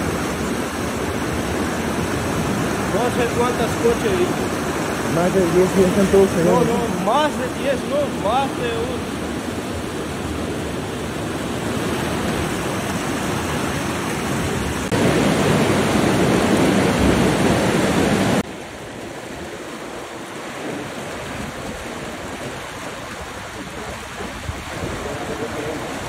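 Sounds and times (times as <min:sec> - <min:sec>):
flood water rushing: 0:00.0 - 0:26.0.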